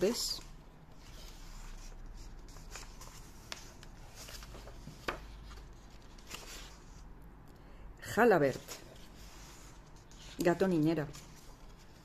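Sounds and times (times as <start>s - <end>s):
book pages turning: 0.9s - 7.1s, 8.4s - 12.0s.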